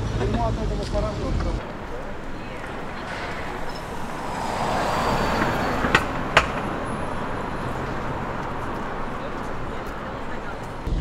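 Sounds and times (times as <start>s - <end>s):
street traffic: 0.0s - 11.0s
vehicle passing: 0.5s - 11.0s.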